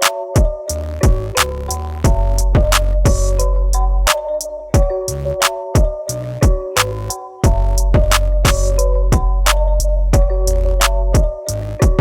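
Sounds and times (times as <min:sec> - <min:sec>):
hip-hop beat with drum machine: 0:00.0 - 0:12.0
deep bass: 0:00.7 - 0:05.4, 0:06.1 - 0:12.0.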